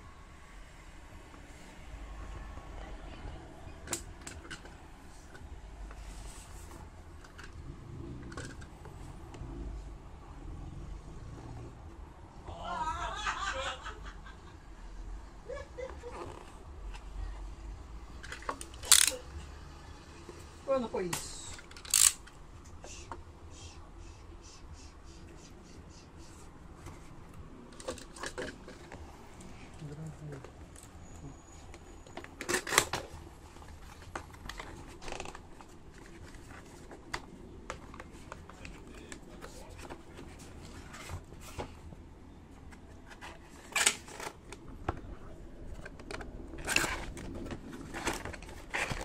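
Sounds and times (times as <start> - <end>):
low rumble of room noise: 0.0 - 49.0.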